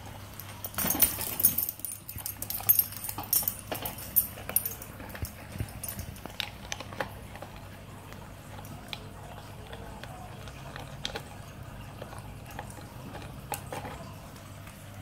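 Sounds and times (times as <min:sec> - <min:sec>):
dog chewing plastic: 0:00.5 - 0:15.0.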